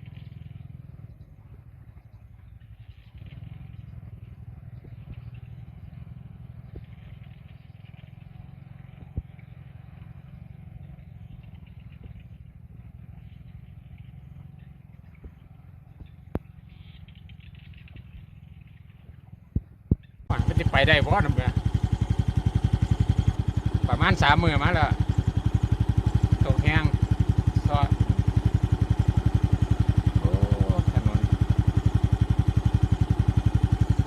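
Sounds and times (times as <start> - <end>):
small engine running at low revs: 0.0 - 34.0.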